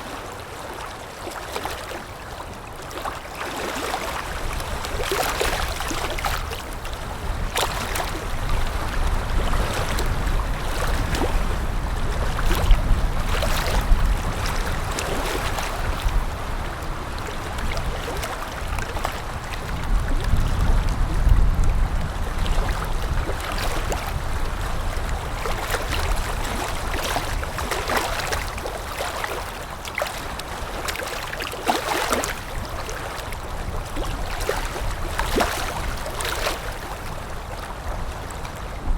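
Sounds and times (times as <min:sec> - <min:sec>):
small waves lapping on shore: 0:00.0 - 0:38.9.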